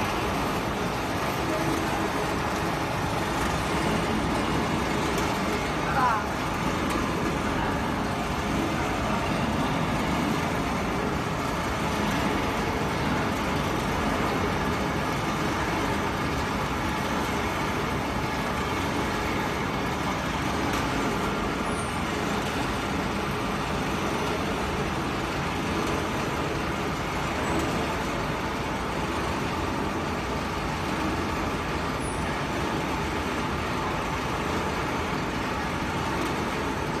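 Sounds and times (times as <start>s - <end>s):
steady machinery noise: 0.0s - 37.0s.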